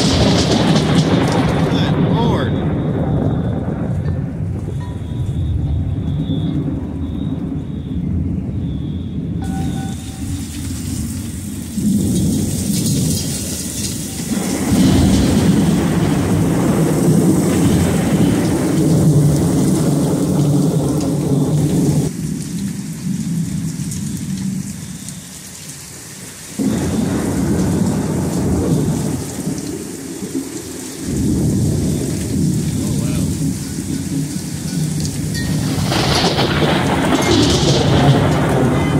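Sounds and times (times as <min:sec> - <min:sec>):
thunder rumbling: 0:00.0 - 0:25.4, 0:26.6 - 0:38.9
heavy rain: 0:00.0 - 0:38.9.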